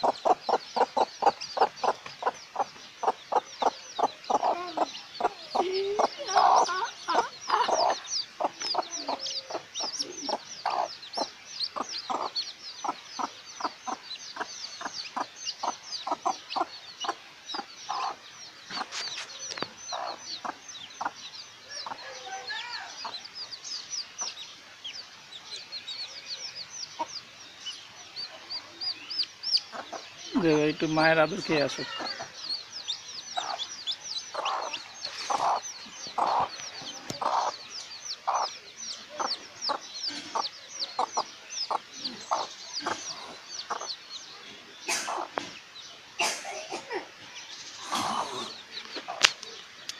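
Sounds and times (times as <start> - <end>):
hen clucking: 0.0 - 46.4, 47.0 - 49.6
chicks peeping: 0.0 - 49.9.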